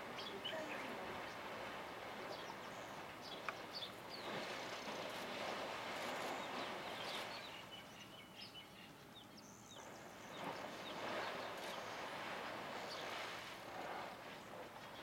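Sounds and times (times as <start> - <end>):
elephants splashing in water: 0.0 - 7.7, 9.8 - 15.0.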